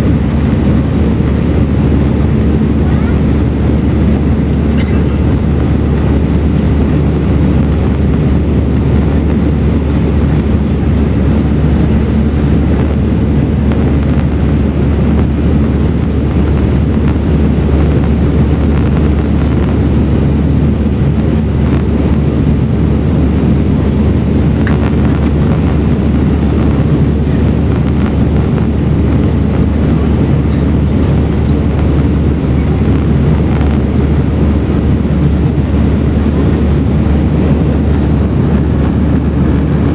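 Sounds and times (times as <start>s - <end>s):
aircraft engine drone: 0.0s - 39.9s
rushing airflow: 0.0s - 39.9s.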